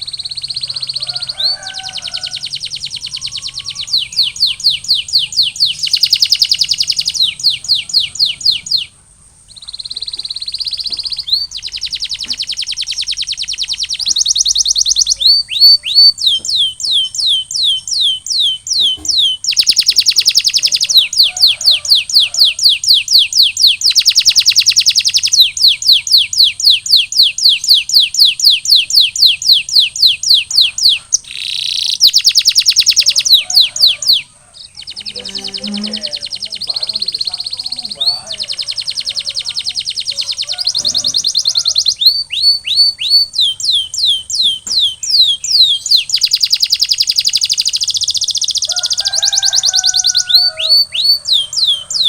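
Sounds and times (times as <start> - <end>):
canary singing trills: 0.0 - 52.0.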